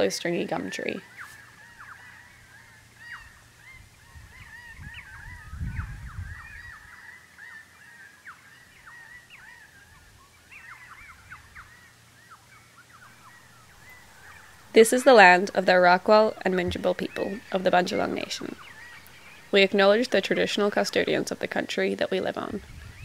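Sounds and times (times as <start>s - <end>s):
flock of parrots chirping: 0.6s - 21.5s.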